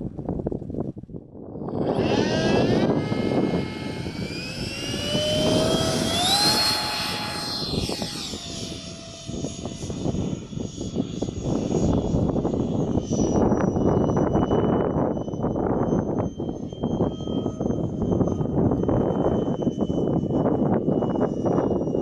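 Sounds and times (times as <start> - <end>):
wind buffeting microphone: 0.0 - 22.0
model jet fan whining: 1.3 - 22.0.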